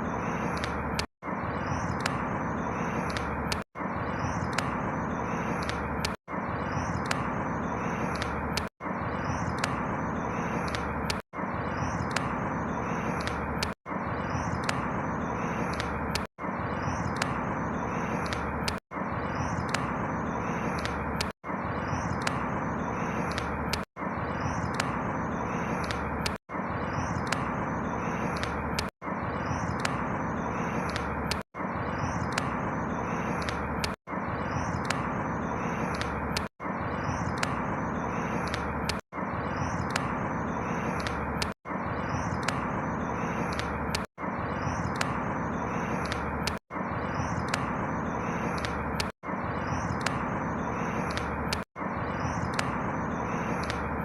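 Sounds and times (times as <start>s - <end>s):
outdoor ambient noise: 0.0s - 54.0s.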